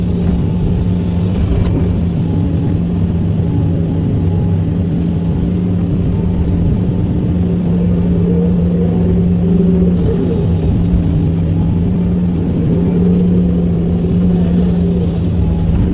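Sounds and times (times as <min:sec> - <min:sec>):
excavator diesel engine droning: 0:00.0 - 0:15.9.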